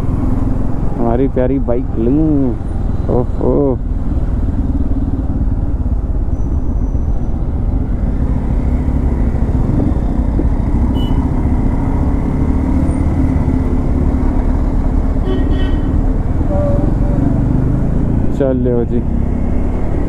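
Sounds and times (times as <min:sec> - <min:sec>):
motorcycle engine running at low revs: 0:00.0 - 0:20.0.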